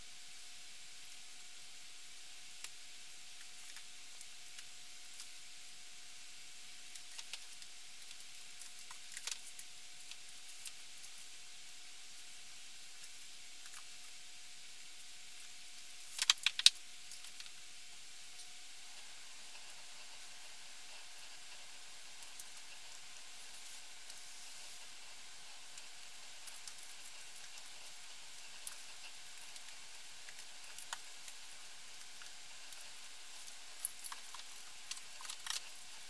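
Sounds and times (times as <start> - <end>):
faint hiss: 0.0 - 36.0.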